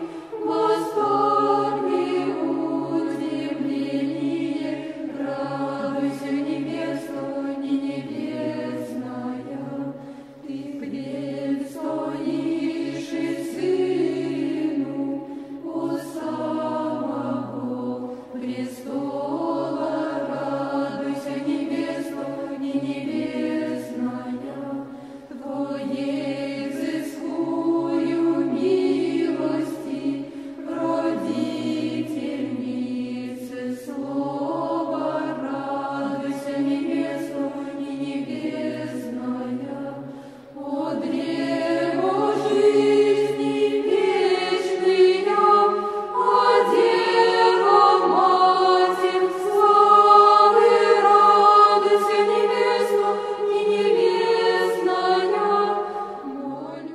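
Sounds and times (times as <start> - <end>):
choir singing chant: 0.0 - 56.9.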